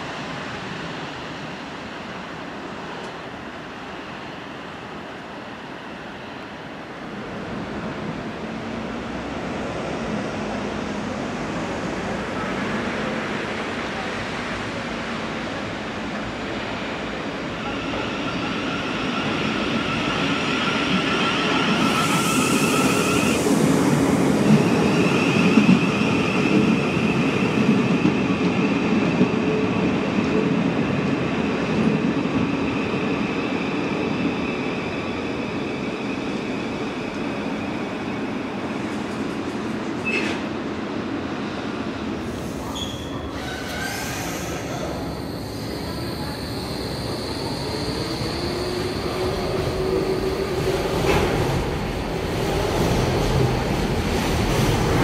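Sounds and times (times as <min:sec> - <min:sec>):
high steady train whine: 0:00.0 - 0:55.0.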